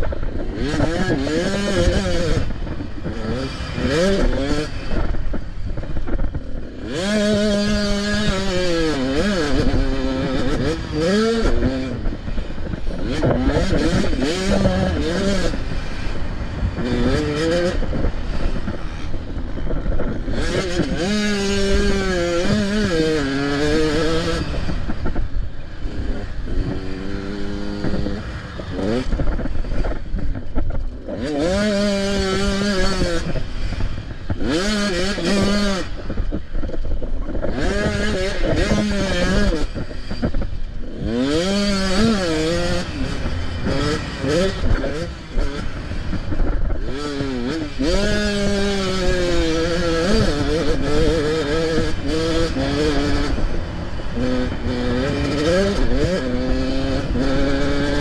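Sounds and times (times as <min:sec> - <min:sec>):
constant rushing noise: 0:00.0 - 0:58.0
dirt bike engine revving: 0:00.0 - 0:58.0.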